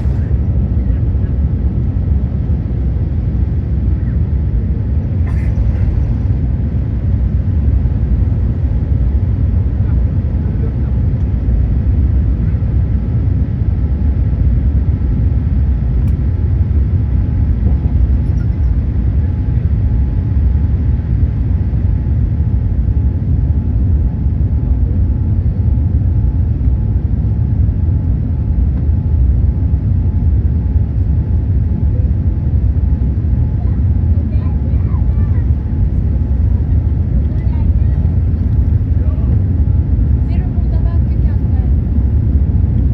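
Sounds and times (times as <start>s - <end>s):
deep rumble of jet engines: 0.0s - 42.9s.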